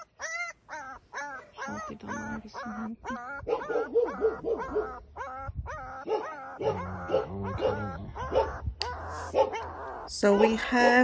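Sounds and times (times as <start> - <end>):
puppy squealing: 0.0 - 11.0.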